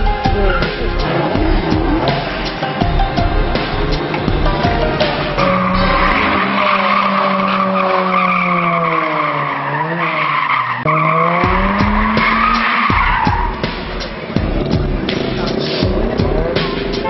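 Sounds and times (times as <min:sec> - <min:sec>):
car engine revving: 0:00.0 - 0:17.0
car tyres squealing: 0:03.3 - 0:17.0.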